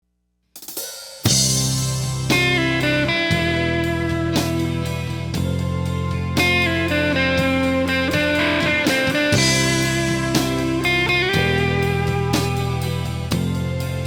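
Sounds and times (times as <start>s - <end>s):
drum kit: 0.6s - 14.0s
blues band playing: 1.3s - 14.0s
electric guitar: 1.3s - 14.0s.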